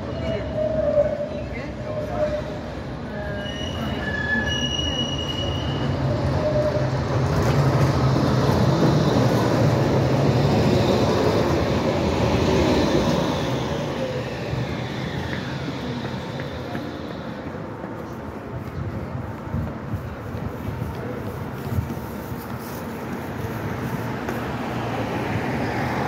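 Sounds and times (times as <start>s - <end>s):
tram motor and wheel hum: 0.0s - 26.0s.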